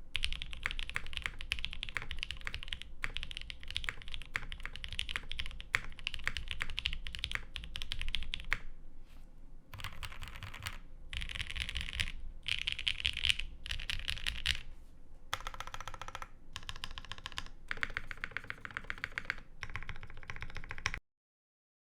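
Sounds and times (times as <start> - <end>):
mechanical keyboard typing: 0.1 - 8.7, 9.7 - 14.6, 15.3 - 21.0.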